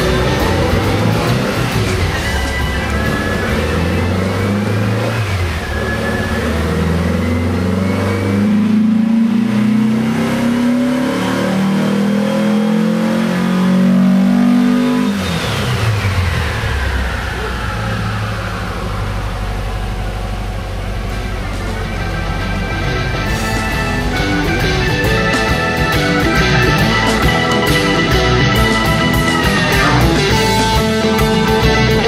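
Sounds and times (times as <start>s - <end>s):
high whine of rollers: 0.0s - 13.3s, 14.2s - 32.0s
engine running under load: 0.0s - 32.0s.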